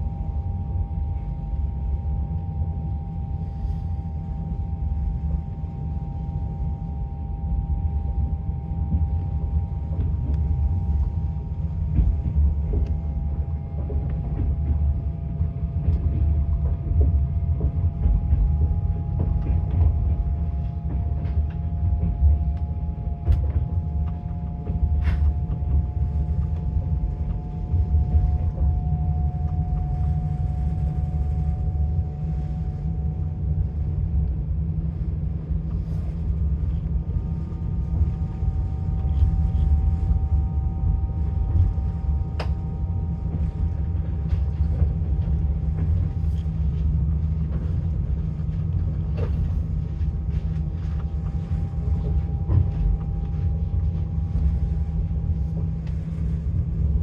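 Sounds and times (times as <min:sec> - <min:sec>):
faint steady whine: 0:00.0 - 0:57.0
train wheels rumbling on rails: 0:08.6 - 0:57.0.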